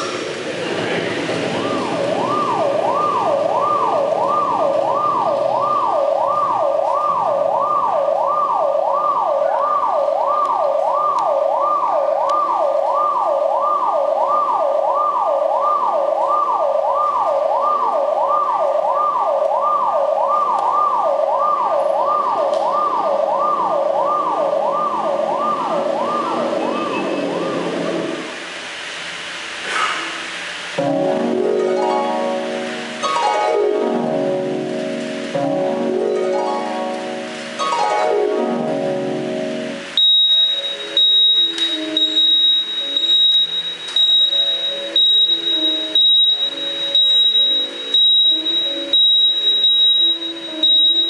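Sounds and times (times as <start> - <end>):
emergency siren over loudspeakers: 0.0 - 29.2, 30.8 - 51.0.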